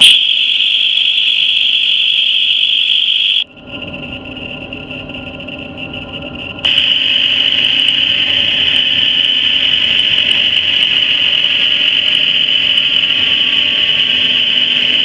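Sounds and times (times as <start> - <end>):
high-pitched drivetrain whine: 0.0 - 15.0
low hum: 0.0 - 15.0.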